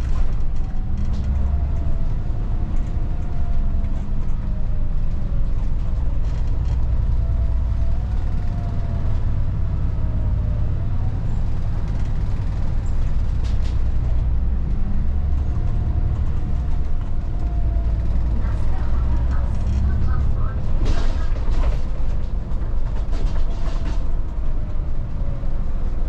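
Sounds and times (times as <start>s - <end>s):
bus diesel engine rumble: 0.0s - 26.0s.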